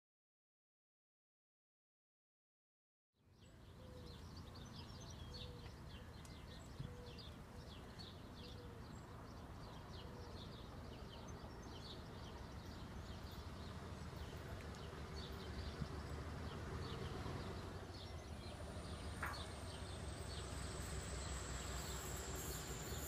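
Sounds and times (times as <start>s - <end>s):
birds chirping: 3.3s - 23.0s.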